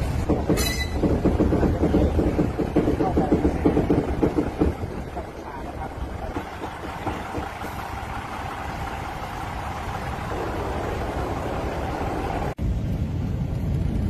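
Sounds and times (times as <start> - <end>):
diesel railcar rumble: 0.0 - 14.0
low vehicle engine rumble: 0.0 - 14.0.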